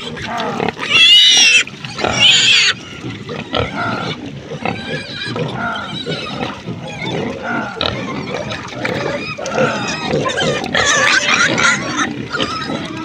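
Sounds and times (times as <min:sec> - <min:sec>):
pig squealing: 0:00.0 - 0:13.0
pigs grunting: 0:00.0 - 0:13.0.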